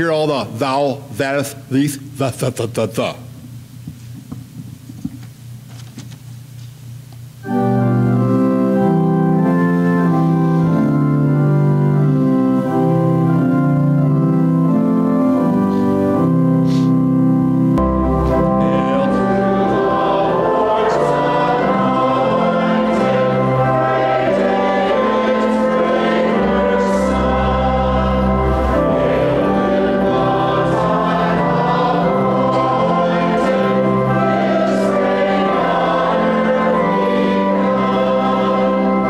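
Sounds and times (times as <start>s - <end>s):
church organ playing hymn: 0.0s - 3.2s, 7.4s - 39.0s
deep organ pedal bass: 7.3s - 39.0s.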